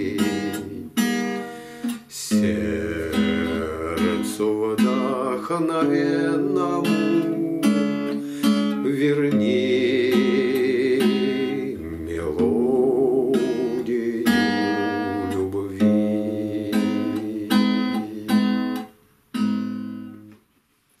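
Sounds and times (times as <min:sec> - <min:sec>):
person singing with vibrato: 0:00.0 - 0:18.9
acoustic guitar chords strummed: 0:00.0 - 0:20.5.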